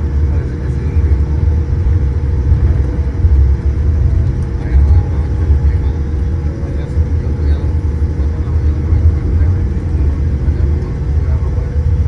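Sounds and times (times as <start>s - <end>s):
aircraft cabin rumble: 0.0s - 12.0s
constant steady hum: 0.0s - 12.0s.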